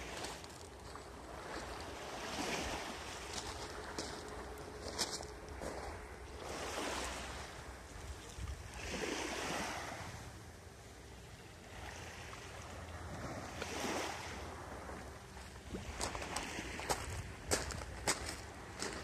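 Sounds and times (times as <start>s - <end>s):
waves washing on pebble beach: 0.0s - 7.8s, 8.7s - 10.2s, 11.7s - 14.7s, 15.4s - 19.0s.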